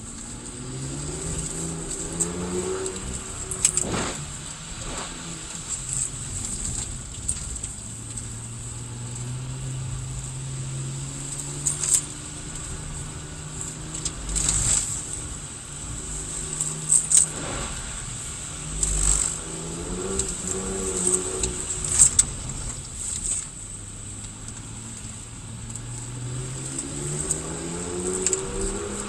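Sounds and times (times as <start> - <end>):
car engine from inside cabin: 0.0 - 29.0.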